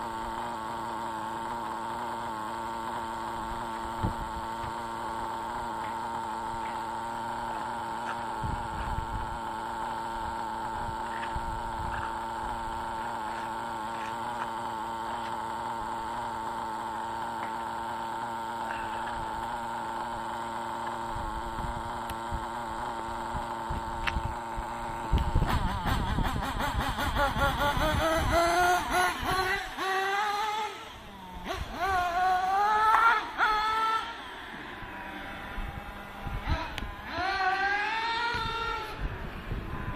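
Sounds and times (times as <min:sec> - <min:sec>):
model engine idling and revving: 0:00.0 - 0:39.9.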